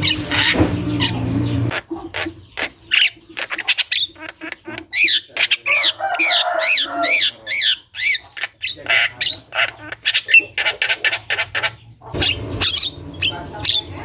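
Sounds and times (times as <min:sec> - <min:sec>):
bird squawking and clicking: 0:00.0 - 0:06.3, 0:07.6 - 0:12.8.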